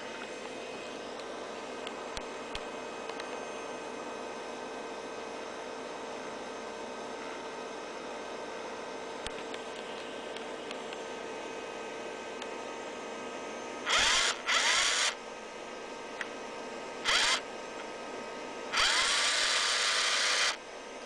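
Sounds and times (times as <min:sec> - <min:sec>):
small electric motor whine: 0:00.0 - 0:21.0.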